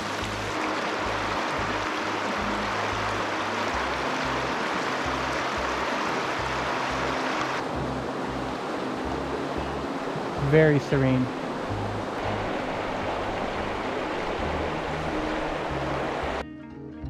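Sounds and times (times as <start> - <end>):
creek water rushing: 0.0 - 16.4.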